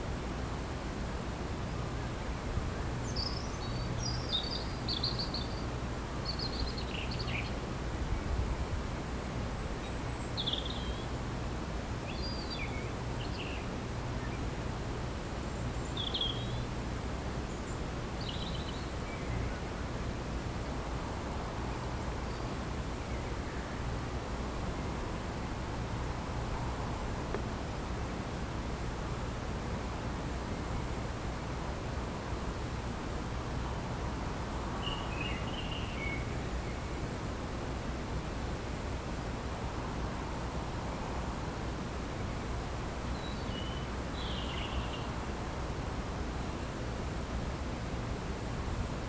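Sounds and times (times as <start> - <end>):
low background hum and hiss: 0.0 - 49.0
songbirds chirping and twittering: 0.2 - 49.0.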